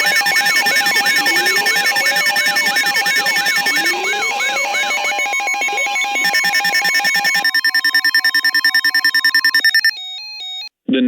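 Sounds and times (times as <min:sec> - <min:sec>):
electronic emergency alert tones: 0:00.0 - 0:10.7.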